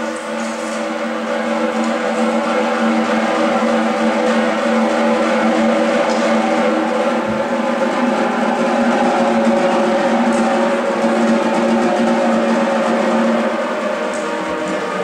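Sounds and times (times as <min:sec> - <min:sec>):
snare drum roll: 0:01.0 - 0:15.0.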